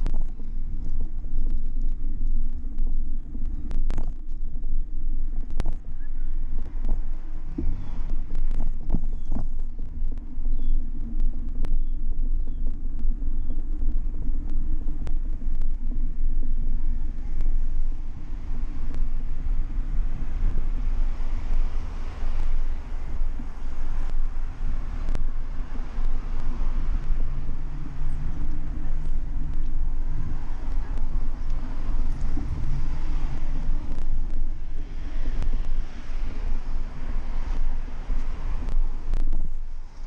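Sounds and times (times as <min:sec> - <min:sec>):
road and traffic noise: 0:00.0 - 0:40.0
wind buffeting microphone: 0:00.0 - 0:40.0.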